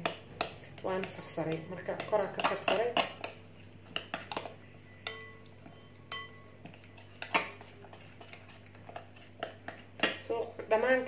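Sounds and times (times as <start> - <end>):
spoon stirring paste in bowl: 0.0 - 11.0.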